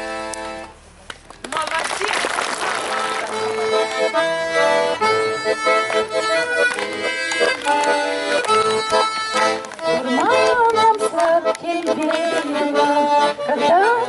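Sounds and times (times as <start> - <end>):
accordion melody: 0.0 - 0.9, 2.6 - 14.0.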